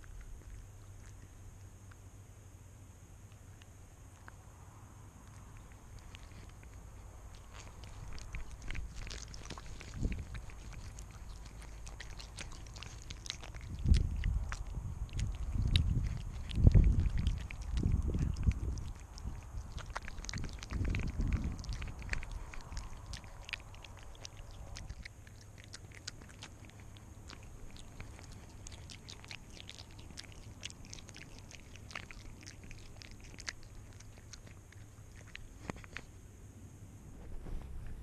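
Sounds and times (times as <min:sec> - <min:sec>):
cat chewing a mouse: 0:00.0 - 0:02.2, 0:03.2 - 0:36.3
rumbling collar movement noise: 0:05.1 - 0:36.2, 0:36.9 - 0:38.0.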